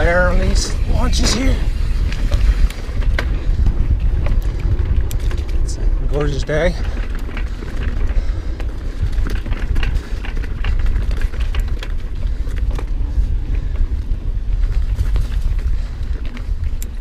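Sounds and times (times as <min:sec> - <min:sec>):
bike clicks and rattles: 0:00.0 - 0:17.0
wind and tyres rumbling over dirt: 0:00.0 - 0:17.0.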